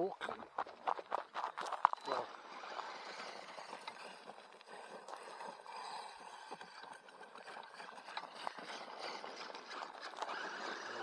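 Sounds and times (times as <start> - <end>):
toy truck driving over gravel: 0.0 - 11.0.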